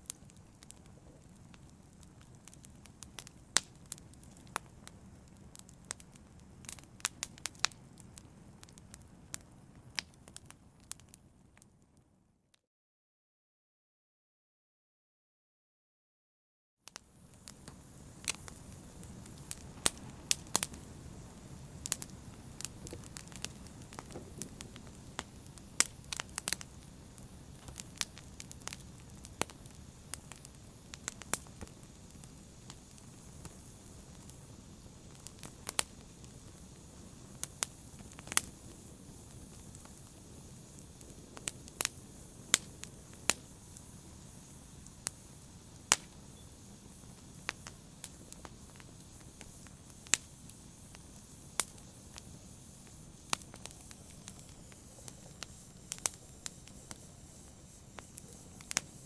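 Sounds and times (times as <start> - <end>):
fire crackling and popping: 0.0 - 12.1, 16.9 - 59.0
low hiss of burning: 0.0 - 12.3, 16.8 - 59.0.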